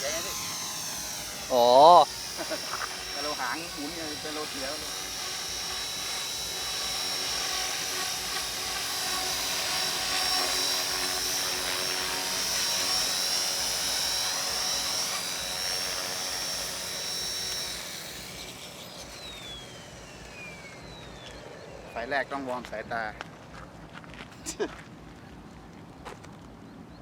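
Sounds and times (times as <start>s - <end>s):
model helicopter whine: 0.0s - 25.5s.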